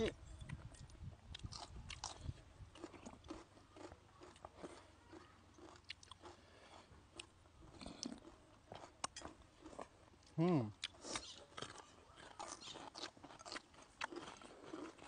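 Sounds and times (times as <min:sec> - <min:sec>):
chewing crisp food: 0:00.3 - 0:15.0.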